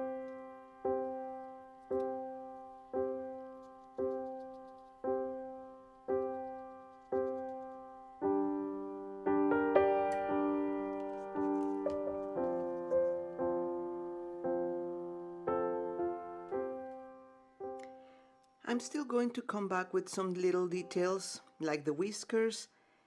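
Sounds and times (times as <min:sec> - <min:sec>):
piano chords: 0:00.0 - 0:18.9.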